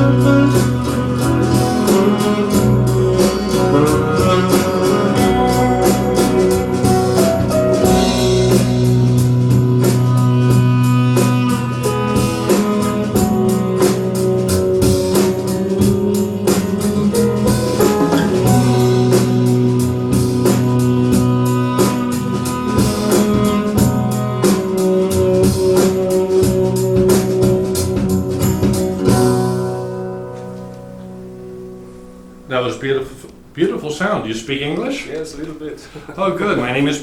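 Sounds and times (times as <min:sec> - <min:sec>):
song with guitar and drums: 0:00.0 - 0:32.5.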